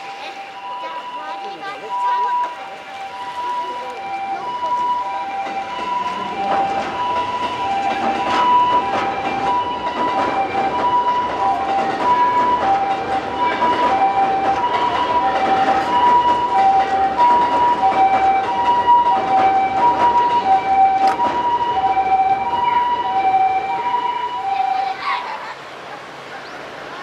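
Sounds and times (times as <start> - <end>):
ambulance siren two-tone: 0.0 - 25.2.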